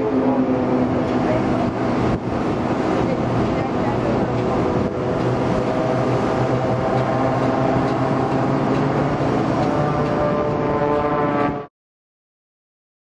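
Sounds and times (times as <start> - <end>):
aircraft engines droning: 0.0 - 11.7.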